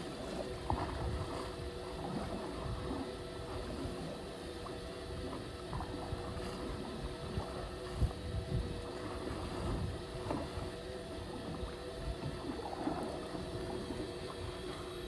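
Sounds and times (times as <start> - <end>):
boat engine humming: 0.0 - 15.0
water noise: 0.0 - 15.0
wind: 0.0 - 15.0.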